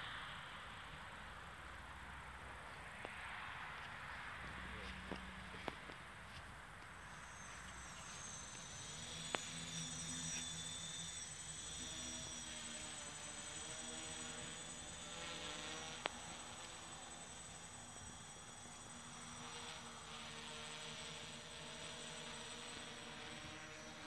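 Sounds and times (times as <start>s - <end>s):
quadcopter motors buzzing: 1.9s - 24.0s.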